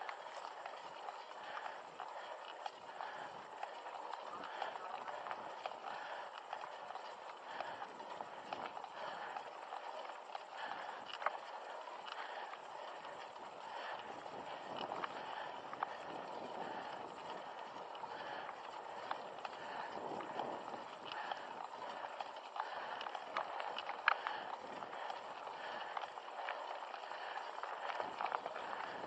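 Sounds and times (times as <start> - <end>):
bike clicks and rattles: 0.0 - 29.0
tyre noise on dirt trail: 0.0 - 29.0.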